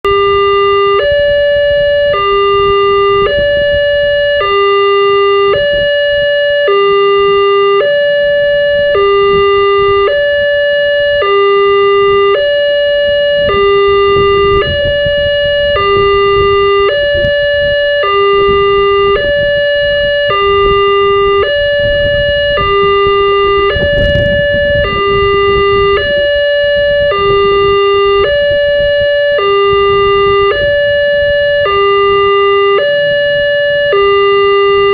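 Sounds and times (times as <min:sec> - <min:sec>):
two-tone level crossing alarm: 0:00.0 - 0:34.9.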